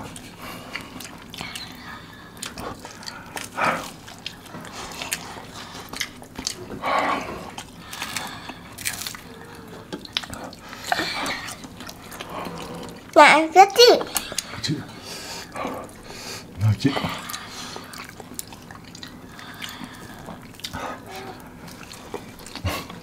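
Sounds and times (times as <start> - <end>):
wet chewing and lip-smacking: 0.0 - 23.0.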